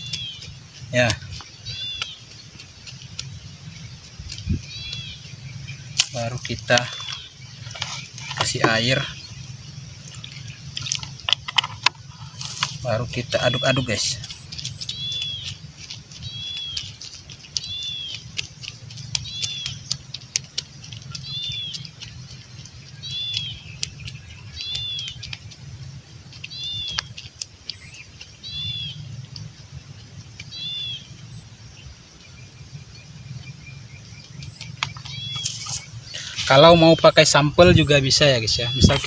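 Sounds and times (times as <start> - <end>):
stick stirring wet mud: 0.0 - 30.7, 34.2 - 39.0
bird chirping: 0.0 - 39.0.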